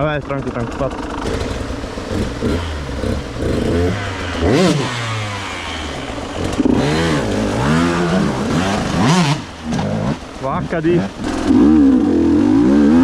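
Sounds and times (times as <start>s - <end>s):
motorcycle engine revving: 0.5s - 13.0s.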